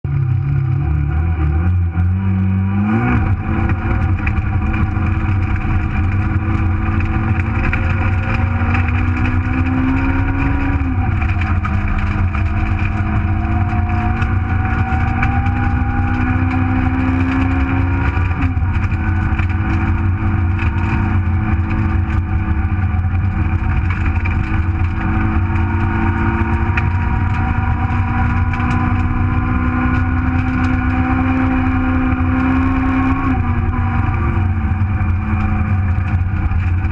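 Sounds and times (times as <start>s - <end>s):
car engine under hard load: 0.0s - 36.9s
low road rumble: 0.0s - 36.9s.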